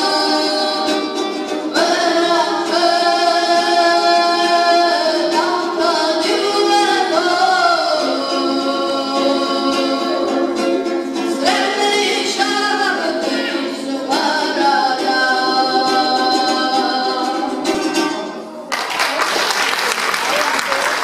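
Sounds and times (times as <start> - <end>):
boy singing: 0.0 - 18.3
lute strumming: 0.0 - 18.7.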